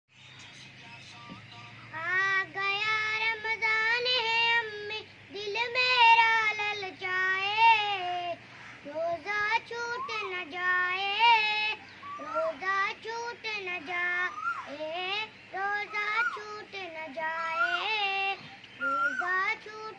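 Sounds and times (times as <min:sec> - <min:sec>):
child singing devotional song: 0:01.2 - 0:19.9.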